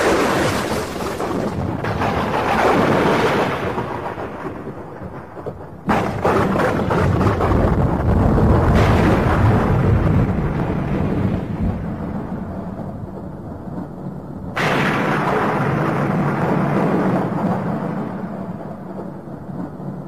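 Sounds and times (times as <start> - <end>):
sharp thunder clap: 0.0 - 20.0
thunder rumbling: 0.0 - 20.0.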